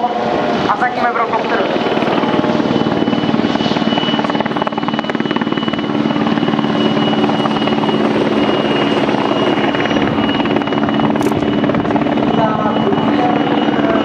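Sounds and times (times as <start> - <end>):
helicopter rotor beating: 0.0 - 14.0
high turbine whine: 0.0 - 14.0.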